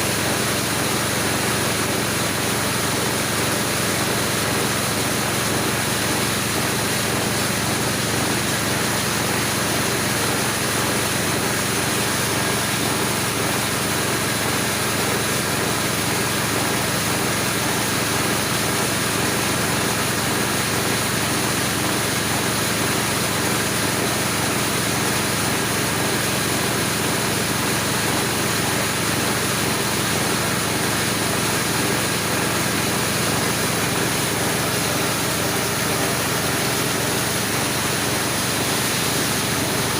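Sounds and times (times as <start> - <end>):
grinding machine running: 0.0 - 39.9.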